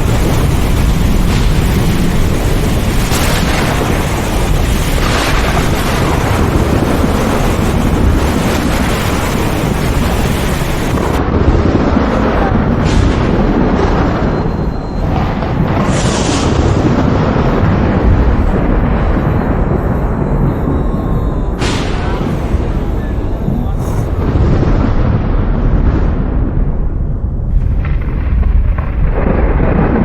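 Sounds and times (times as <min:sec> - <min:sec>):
thunder rumbling and cracking: 0:00.0 - 0:30.0.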